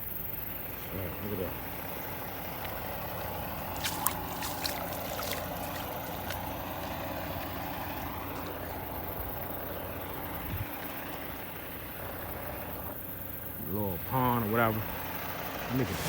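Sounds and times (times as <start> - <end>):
diesel truck engine running: 0.0 - 16.0
water sloshing around wheels: 0.1 - 16.0.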